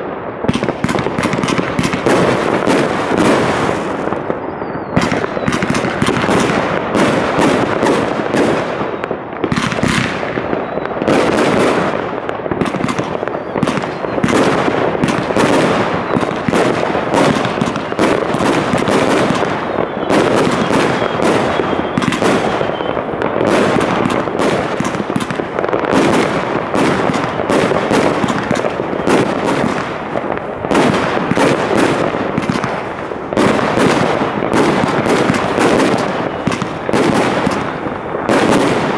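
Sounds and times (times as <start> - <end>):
fireworks launches and bangs: 0.0 - 38.9.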